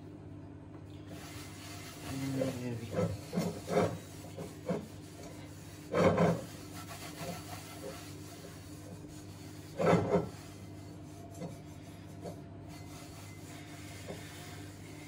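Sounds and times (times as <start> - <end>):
cloth wiping cast iron skillet: 1.1 - 15.0.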